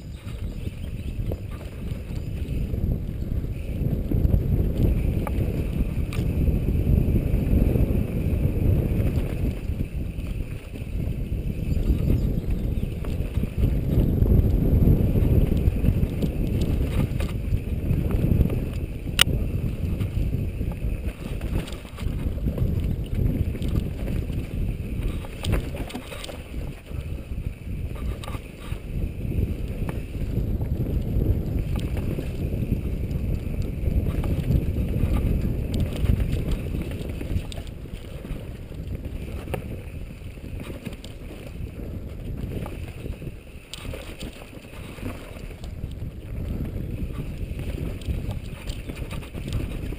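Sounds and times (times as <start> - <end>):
mountain bike rattling on trail: 0.0 - 49.9
wind buffeting microphone: 0.0 - 49.9.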